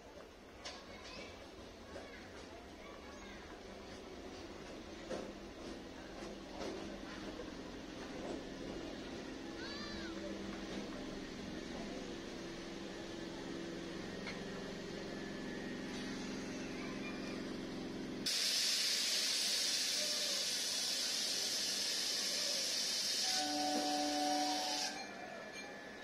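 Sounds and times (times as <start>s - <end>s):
train low steady hum: 0.0s - 26.0s.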